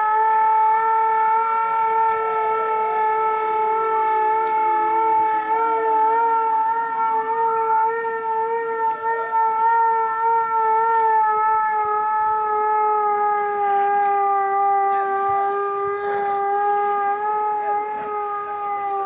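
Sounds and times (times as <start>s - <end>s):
air-raid siren wailing: 0.0s - 19.0s
faint siren gliding up and down: 0.0s - 19.0s.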